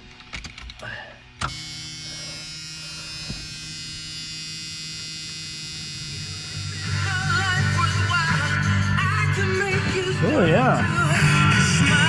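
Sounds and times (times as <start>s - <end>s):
electrical buzz with whine: 0.0s - 12.0s
music from car stereo: 1.4s - 12.0s.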